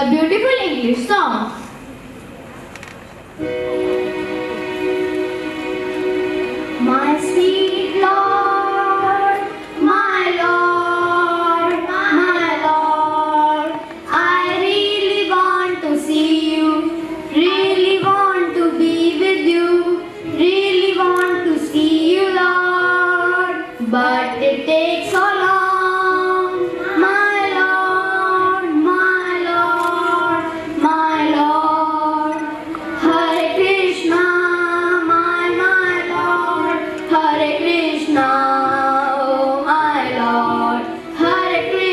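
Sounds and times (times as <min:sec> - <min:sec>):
girls singing: 0:06.2 - 0:41.9.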